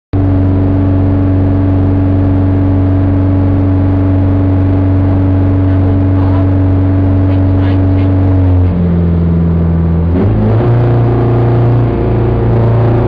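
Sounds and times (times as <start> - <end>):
car engine running: 0.1 - 13.0.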